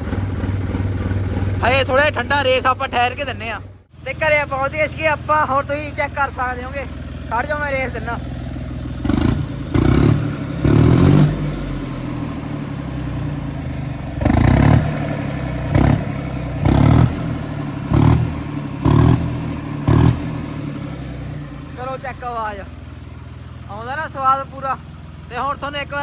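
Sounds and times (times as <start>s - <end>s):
diesel tractor engine revving: 0.0s - 26.0s.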